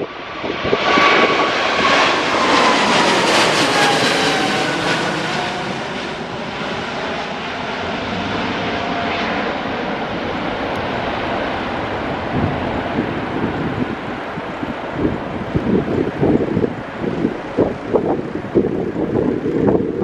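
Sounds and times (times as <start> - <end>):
jet aircraft passing overhead: 0.0 - 20.0.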